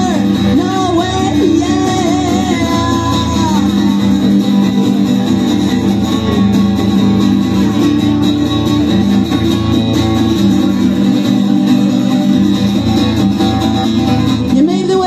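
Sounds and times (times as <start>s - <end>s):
guitar: 0.0s - 15.0s
live rock band playing: 0.0s - 15.0s.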